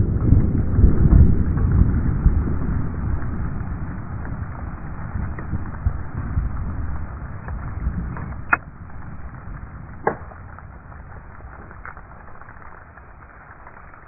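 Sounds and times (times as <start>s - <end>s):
low explosion rumble: 0.0s - 14.0s
debris landing ticks: 0.1s - 14.0s.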